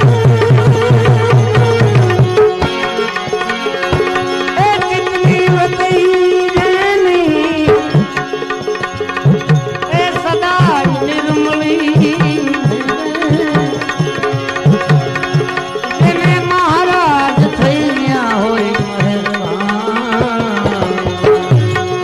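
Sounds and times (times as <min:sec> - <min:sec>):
sliding melodic instrument: 0:00.0 - 0:22.0
tabla rhythm: 0:00.0 - 0:22.0.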